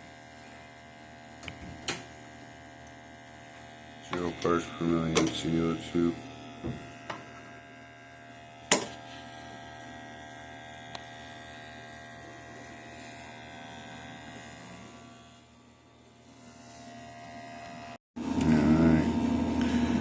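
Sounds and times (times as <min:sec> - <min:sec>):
steady electric hum: 0:00.0 - 0:20.0.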